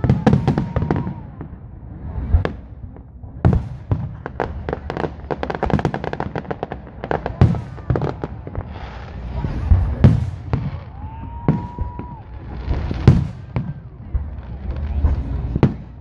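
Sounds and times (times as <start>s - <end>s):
firework booms: 0.0s - 16.0s.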